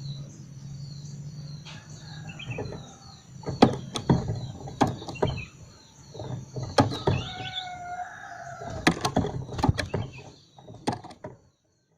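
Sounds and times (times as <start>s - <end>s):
bird chirp: 0.0s - 11.9s.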